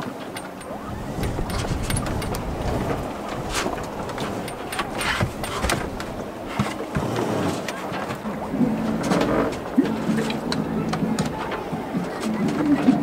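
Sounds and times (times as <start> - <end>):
rope and fittings knocking: 0.3 - 12.7
wind rumble on microphone: 0.4 - 12.1.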